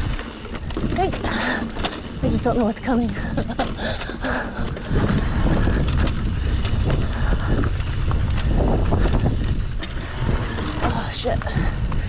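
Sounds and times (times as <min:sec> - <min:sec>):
mountain bike rattling: 0:00.0 - 0:12.0
wind buffeting microphone: 0:00.0 - 0:12.0.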